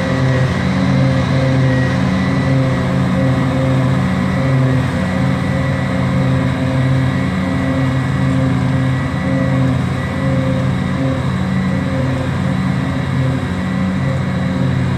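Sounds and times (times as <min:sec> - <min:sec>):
diesel engines droning: 0:00.0 - 0:14.9
high machine whine: 0:00.0 - 0:14.9.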